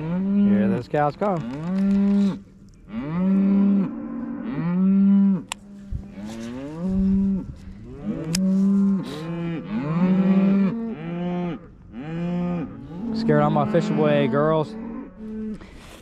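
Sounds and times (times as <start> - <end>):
cows mooing: 0.0 - 15.7.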